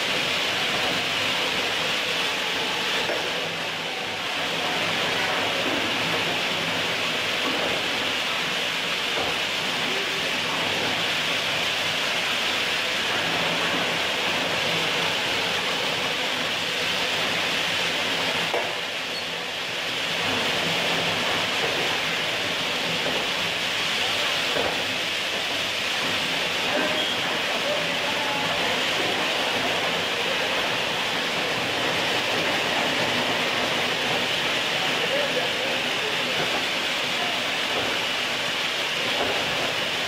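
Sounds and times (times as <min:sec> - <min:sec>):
machinery hissing: 0:00.0 - 0:40.0.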